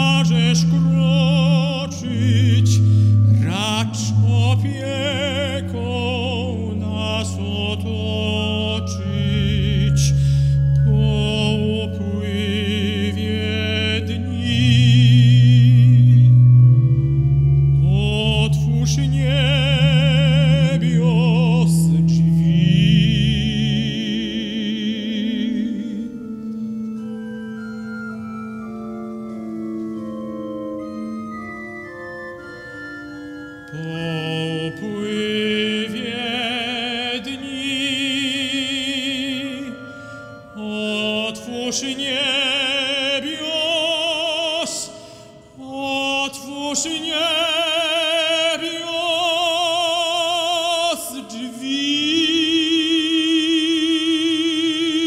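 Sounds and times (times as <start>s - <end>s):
operatic tenor singing: 0.0s - 27.2s, 33.6s - 55.0s
organ playing: 0.0s - 55.0s.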